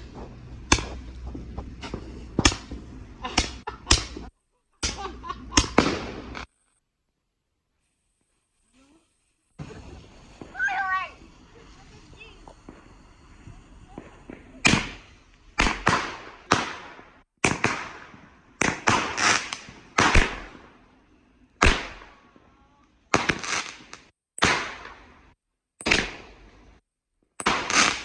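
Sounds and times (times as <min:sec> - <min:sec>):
fireworks bangs: 0:00.0 - 0:06.7, 0:07.8 - 0:26.8, 0:27.4 - 0:28.0.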